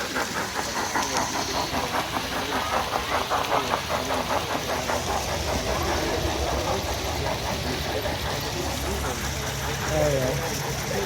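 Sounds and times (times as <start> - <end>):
model train clicking on track: 0.0 - 11.0.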